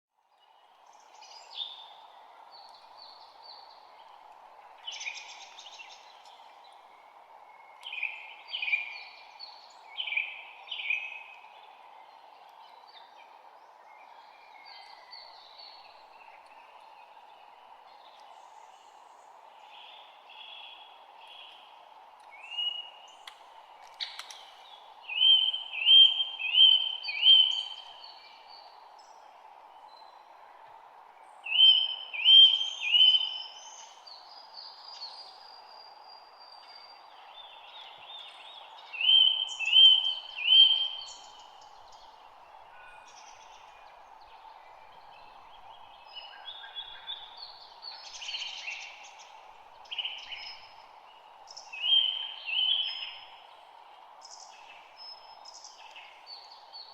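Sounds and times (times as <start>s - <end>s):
low background hiss: 0.2s - 56.9s.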